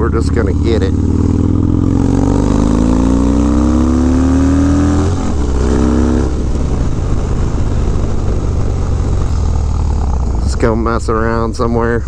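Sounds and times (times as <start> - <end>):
motorcycle engine accelerating: 0.0 - 12.0
rushing wind and road noise: 0.0 - 12.0.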